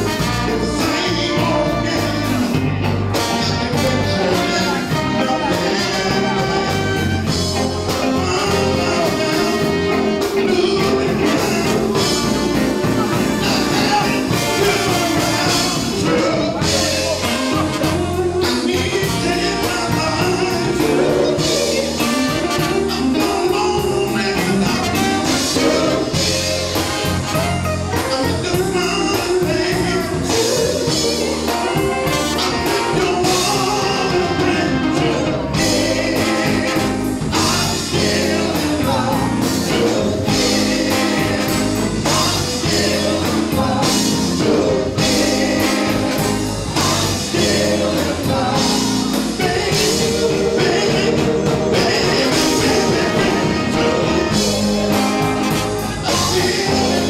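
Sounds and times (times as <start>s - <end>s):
backing singers: 0.0s - 57.0s
man singing lead: 0.0s - 57.0s
soul band playing: 0.0s - 57.0s.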